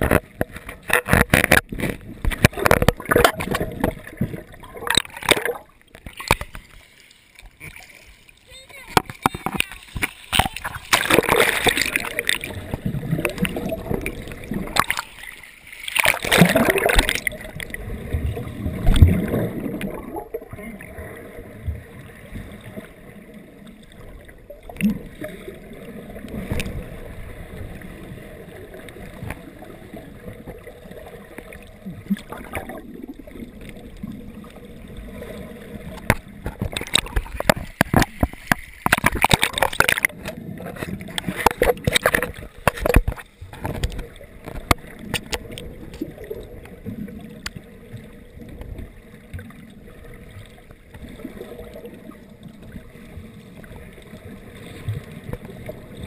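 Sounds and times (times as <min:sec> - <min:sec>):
muffled underwater rushing and bubbling: 0:00.0 - 0:56.0.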